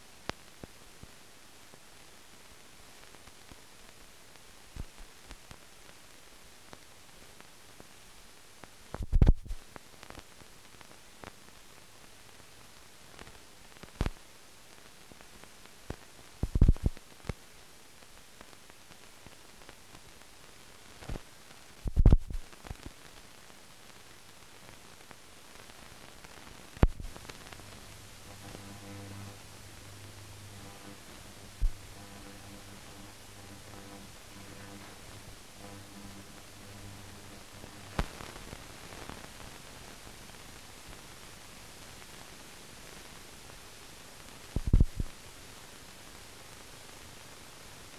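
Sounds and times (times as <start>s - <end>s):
film hiss: 0.0s - 47.9s
film pops and crackles: 0.0s - 47.9s.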